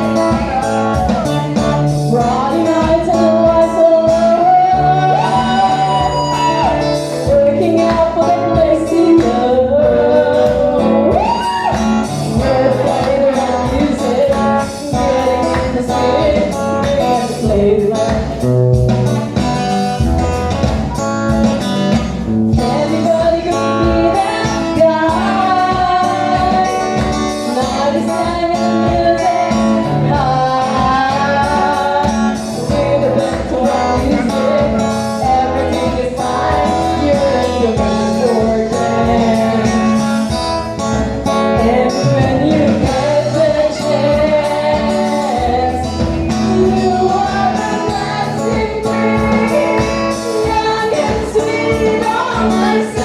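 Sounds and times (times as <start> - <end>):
guitar: 0.0 - 53.0
person singing: 0.0 - 53.0
steady drum beat: 0.0 - 53.0.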